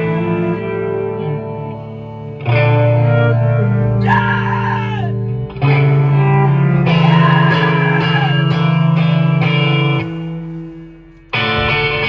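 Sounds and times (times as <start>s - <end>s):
electric guitars ringing chords: 0.0s - 12.0s.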